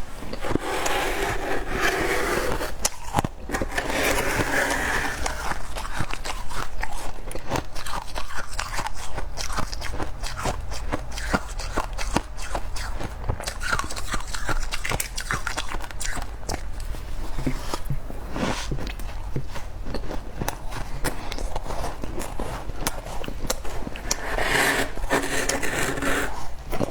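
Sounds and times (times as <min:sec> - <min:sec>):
chewing crunchy frost: 0:00.2 - 0:26.9.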